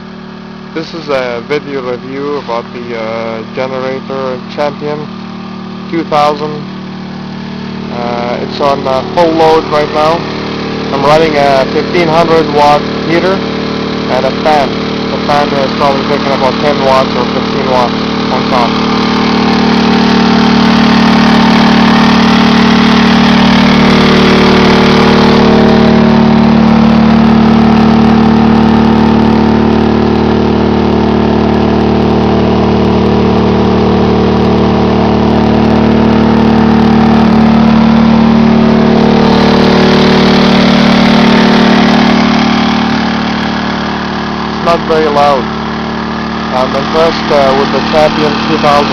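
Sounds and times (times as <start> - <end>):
generator engine droning: 0.0 - 48.9.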